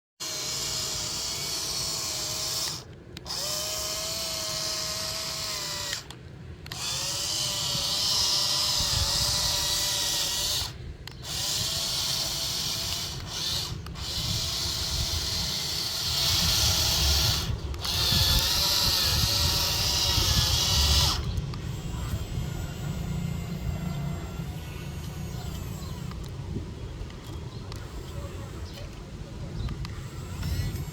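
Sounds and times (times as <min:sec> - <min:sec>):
toy electric motors whining: 0:00.2 - 0:30.9.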